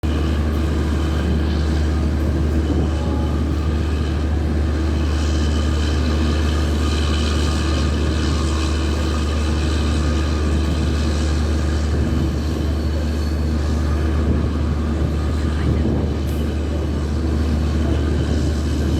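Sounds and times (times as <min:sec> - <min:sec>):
diesel generator engine drone: 0:00.0 - 0:18.9.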